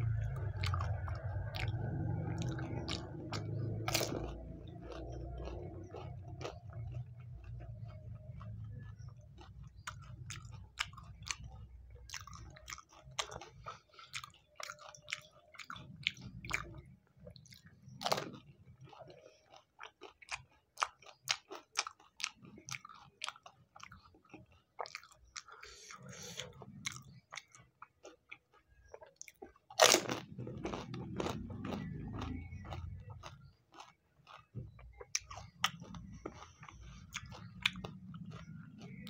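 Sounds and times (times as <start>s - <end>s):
chewing with crisp crunches: 0.0s - 39.0s.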